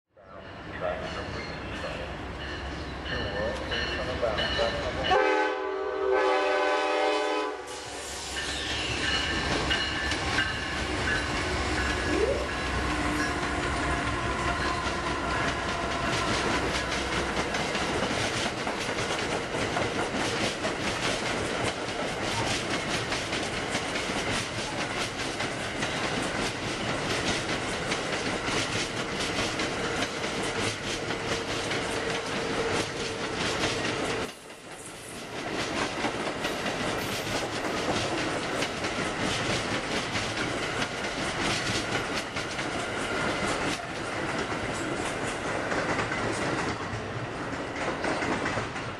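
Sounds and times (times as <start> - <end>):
train wheels clattering over rail joints: 8.4 - 48.9.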